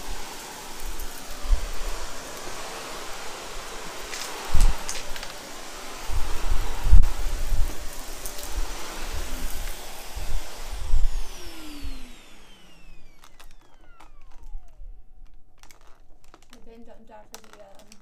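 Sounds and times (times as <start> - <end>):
upright vacuum running: 0.0 - 18.0
vacuum motor whining down: 0.0 - 18.0.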